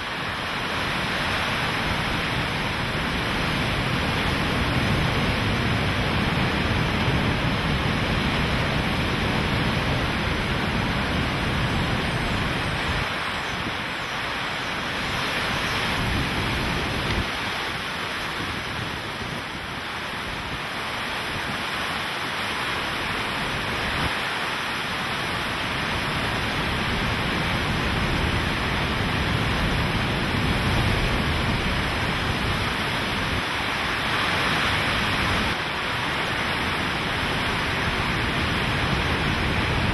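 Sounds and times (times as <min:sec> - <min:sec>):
driving rain: 0:00.0 - 0:39.9
gusts buffeting microphone: 0:00.0 - 0:39.9
hurricane-force wind: 0:00.0 - 0:39.9.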